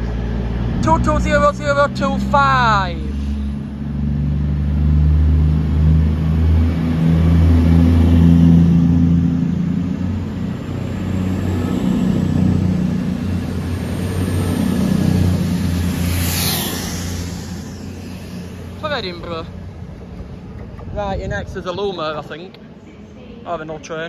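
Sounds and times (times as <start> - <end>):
diesel train passing: 0.0 - 24.0.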